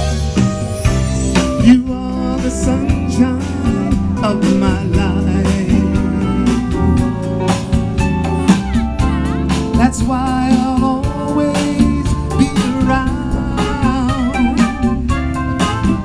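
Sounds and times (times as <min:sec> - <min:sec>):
drum kit beat: 0:00.0 - 0:16.0
soul band playing: 0:00.0 - 0:16.0
person singing: 0:01.5 - 0:16.0.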